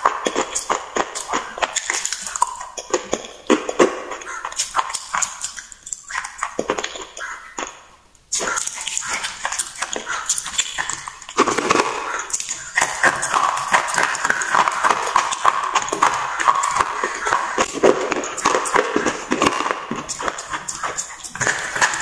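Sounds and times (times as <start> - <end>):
chewing crunchy pencils: 0.0 - 22.0.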